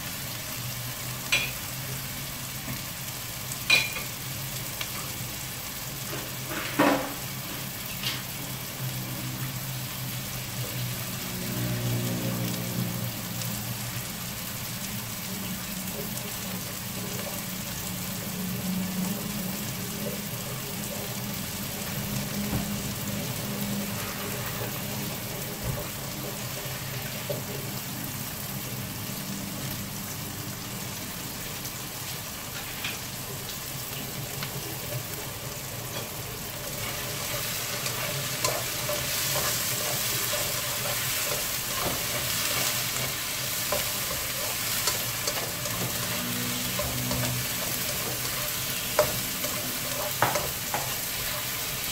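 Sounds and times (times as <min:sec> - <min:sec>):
vegetables sizzling in a wok: 0:00.0 - 0:51.9.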